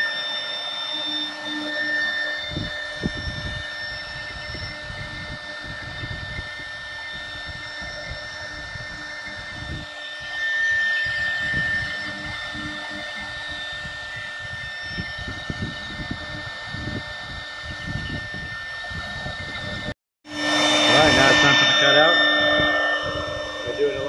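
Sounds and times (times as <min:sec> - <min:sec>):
router spindle high whine: 0:00.0 - 0:24.0.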